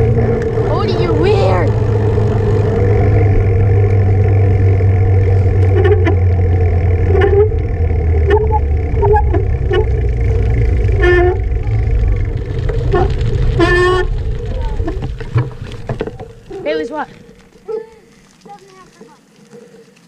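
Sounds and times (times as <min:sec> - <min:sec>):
steady hum: 0:00.0 - 0:17.6
wind rumbling on microphone: 0:00.0 - 0:17.6.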